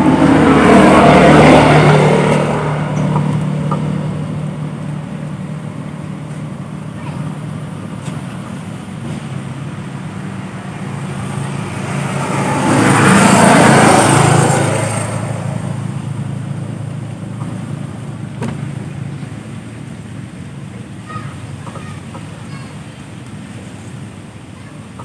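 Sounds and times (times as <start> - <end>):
road vehicle passing by: 0.0 - 25.0
steady low hum: 0.0 - 25.0.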